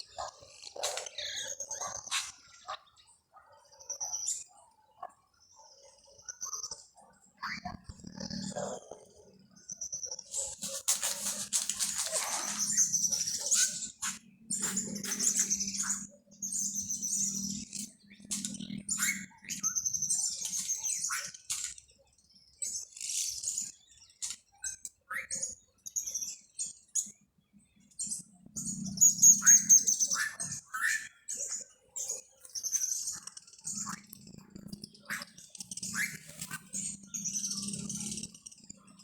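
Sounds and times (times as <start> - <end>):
small birds chirping and trilling: 0.0 - 39.0.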